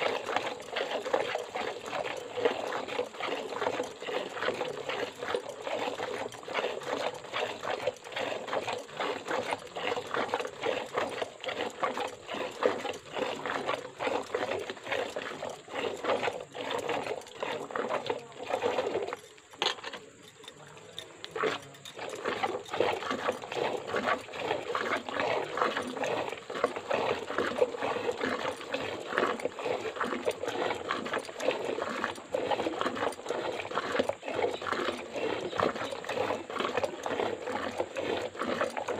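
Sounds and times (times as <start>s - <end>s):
milk squirting into steel bucket: 0.0s - 38.9s.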